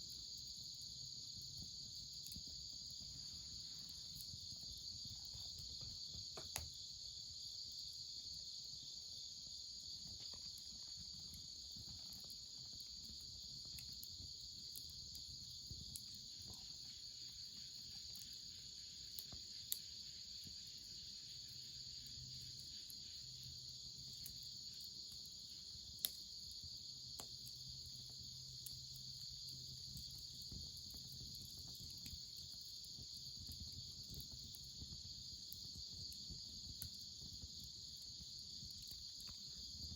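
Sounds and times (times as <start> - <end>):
night insects chirring: 0.0 - 39.9
bonfire firewood popping: 1.4 - 7.2, 9.2 - 19.8, 23.8 - 39.9.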